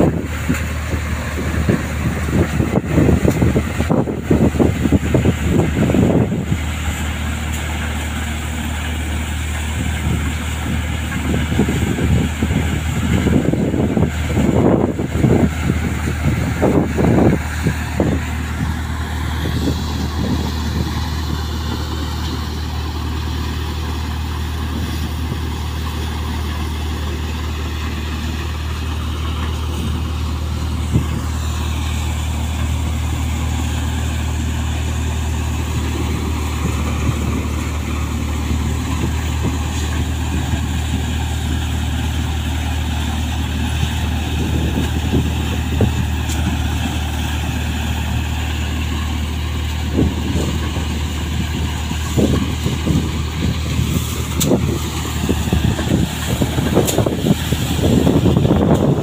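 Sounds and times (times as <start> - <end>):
low engine hum: 0.0 - 59.0
thresher machine running: 0.0 - 59.0.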